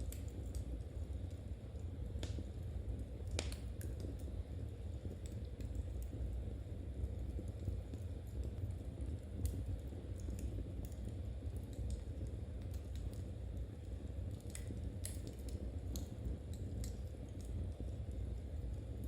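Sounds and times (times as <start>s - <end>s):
low steady rumble: 0.0s - 19.0s
wood fire crackling and popping: 0.0s - 19.0s.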